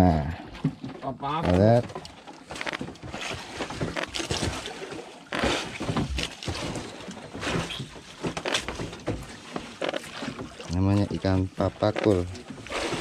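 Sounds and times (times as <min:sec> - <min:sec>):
water slapping boat hull: 0:00.2 - 0:13.0.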